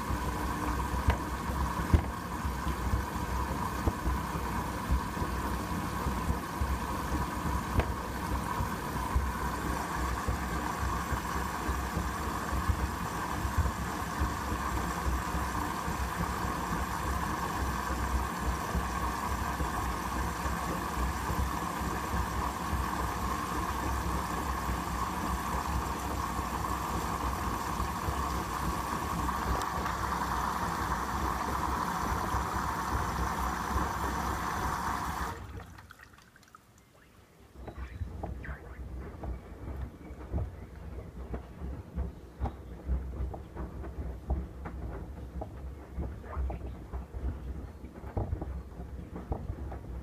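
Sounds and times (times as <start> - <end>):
washing machine hum: 0.0 - 50.0.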